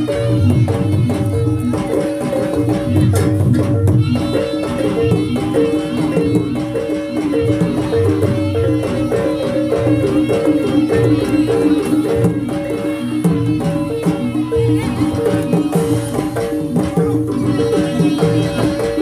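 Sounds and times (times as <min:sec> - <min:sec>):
drum beats: 0:00.0 - 0:19.0
gamelan ensemble music: 0:00.0 - 0:19.0.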